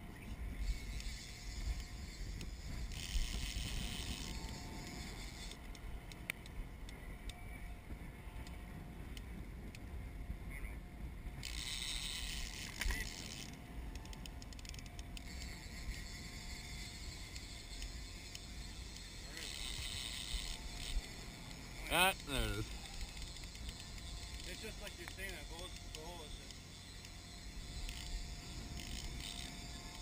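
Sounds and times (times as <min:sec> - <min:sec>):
wind buffeting microphone: 0:00.0 - 0:30.0
small clicks: 0:00.7 - 0:07.4, 0:11.4 - 0:30.0.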